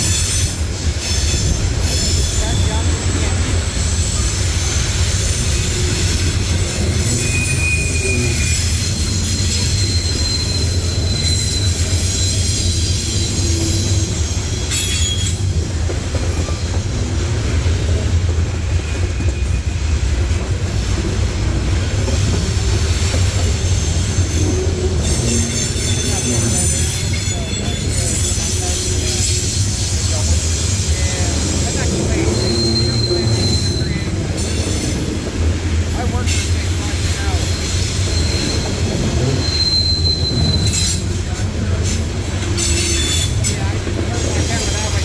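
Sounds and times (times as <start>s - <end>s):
train wheels squealing: 0.0s - 20.7s, 21.8s - 45.0s
train rumbling past: 0.0s - 45.0s.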